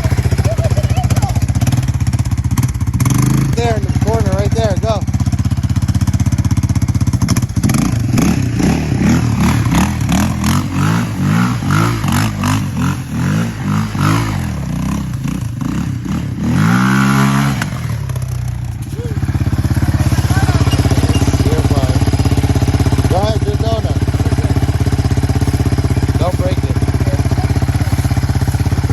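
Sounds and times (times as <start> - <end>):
atv engine revving: 0.0 - 28.9.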